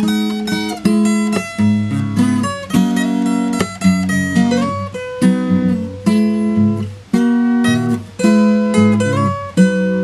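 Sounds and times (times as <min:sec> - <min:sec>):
acoustic guitar chords ringing: 0:00.0 - 0:10.0.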